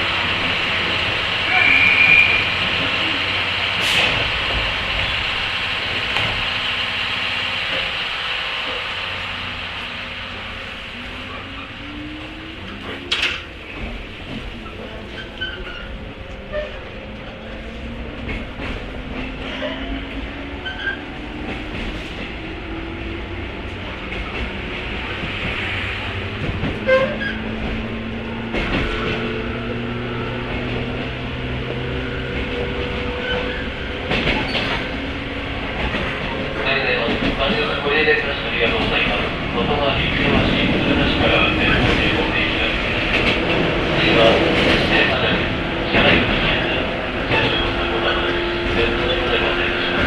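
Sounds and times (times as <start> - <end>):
electric train running rumble: 0.0 - 50.0
rail joints clicking: 0.0 - 50.0.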